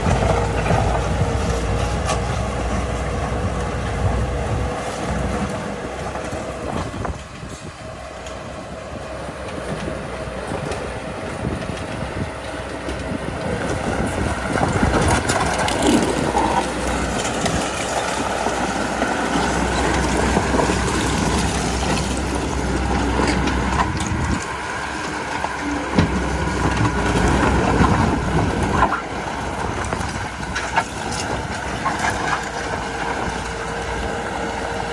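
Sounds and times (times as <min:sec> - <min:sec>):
clatter of steel tracks: 0:00.0 - 0:34.9
diesel engine running: 0:00.0 - 0:34.9.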